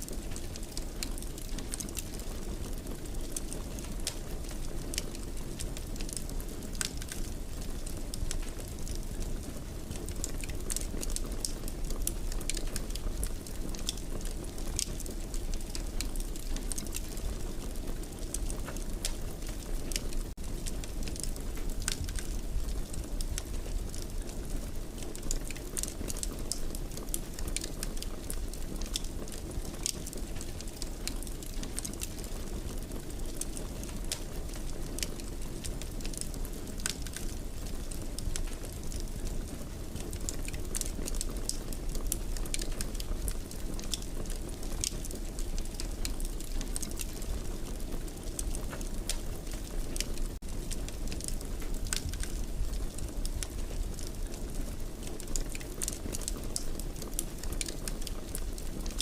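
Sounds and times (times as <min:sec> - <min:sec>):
fire burning in fireplace: 0:00.0 - 0:59.0.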